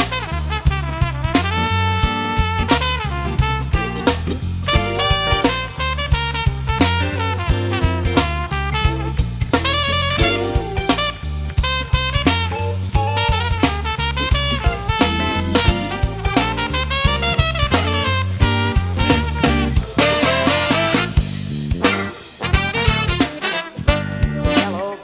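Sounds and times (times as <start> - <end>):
bass: 0.0 - 25.0
saxophone and brass lines: 0.0 - 25.0
steady drum beat: 0.0 - 25.0.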